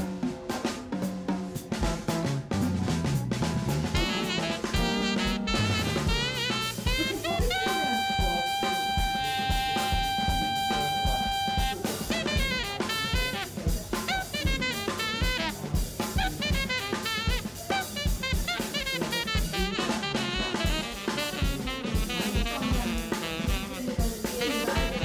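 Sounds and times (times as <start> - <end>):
background music with drum beat: 0.0 - 25.0.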